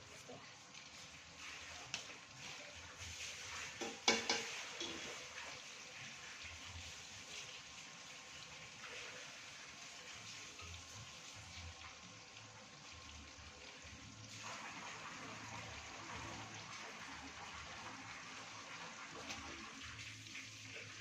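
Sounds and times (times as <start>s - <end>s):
oil sizzling in a frying pan: 0.0s - 21.0s.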